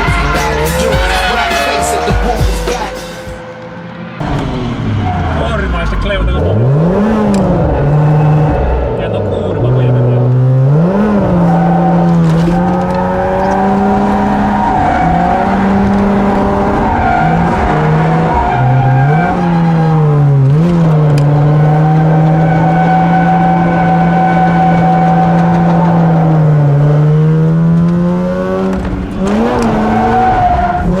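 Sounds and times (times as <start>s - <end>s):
car engine at high revs: 0.0s - 31.0s
tyres squealing: 0.0s - 31.0s.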